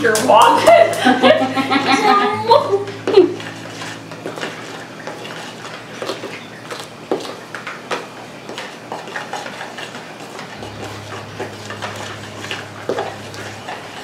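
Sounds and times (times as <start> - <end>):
dishes and utensils clinking: 0.0 - 14.0
steady low hum: 0.0 - 14.0.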